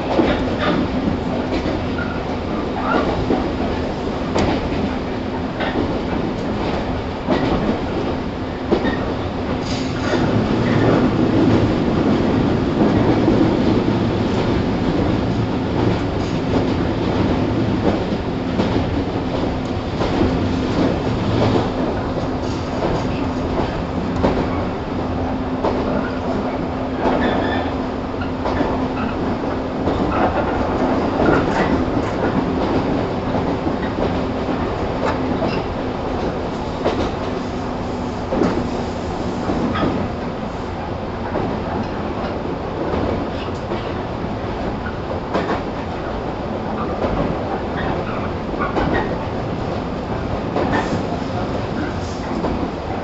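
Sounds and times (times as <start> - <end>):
rail joint clicks: 0.0 - 53.0
train motor and gear hum: 0.0 - 53.0
train wheels rumbling: 0.0 - 53.0.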